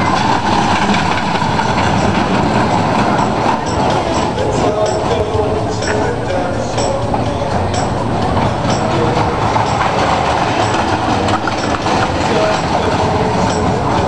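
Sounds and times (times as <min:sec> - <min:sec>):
roller coaster wheels rumbling: 0:00.0 - 0:14.0.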